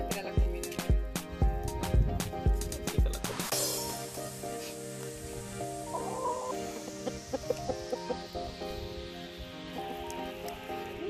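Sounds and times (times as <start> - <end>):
background music with steady beat: 0.0 - 11.0
held music chord: 0.0 - 11.0.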